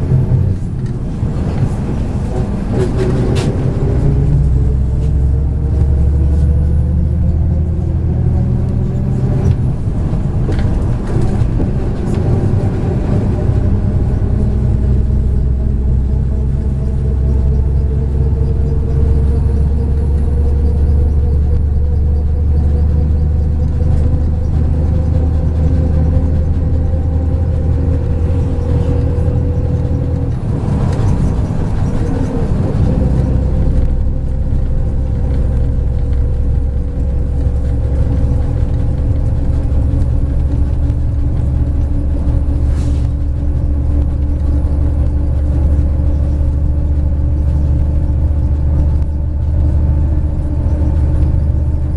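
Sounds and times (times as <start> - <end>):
bus engine rumbling: 0.0 - 51.9.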